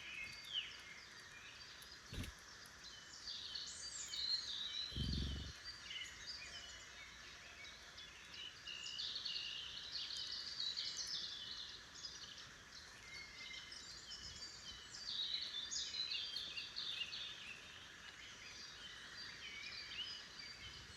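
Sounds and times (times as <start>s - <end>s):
songbirds singing: 0.0s - 20.9s.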